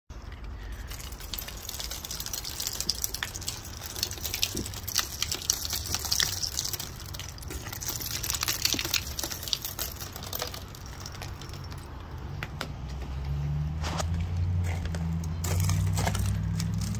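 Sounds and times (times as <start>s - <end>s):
icicles snapping and tinkling: 0.1s - 12.8s, 14.6s - 16.9s.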